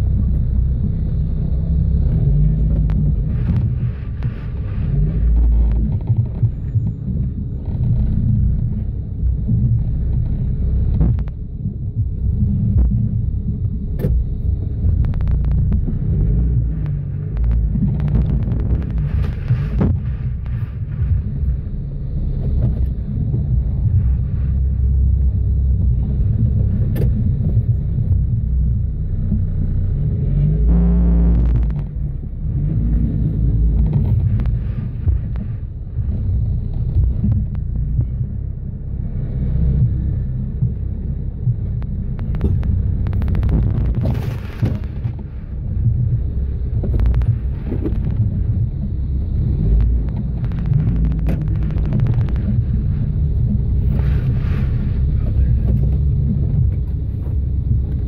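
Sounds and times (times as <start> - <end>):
vehicle clicks and knocks: 0.0 - 24.4, 25.0 - 30.6, 31.2 - 58.0
vehicle engine running low: 0.0 - 58.0.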